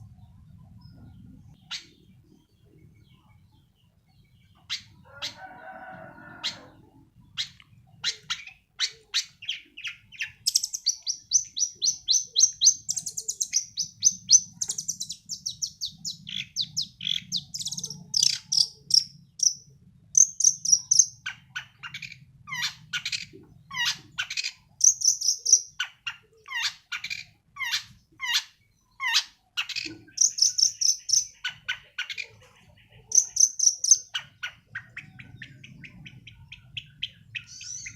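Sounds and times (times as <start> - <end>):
bird singing varied song: 0.0 - 37.9.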